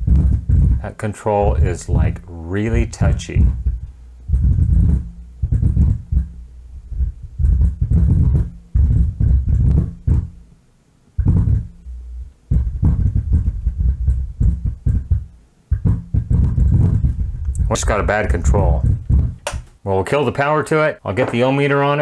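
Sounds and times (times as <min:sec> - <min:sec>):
subwoofer rumble with crackling: 0:00.0 - 0:22.0.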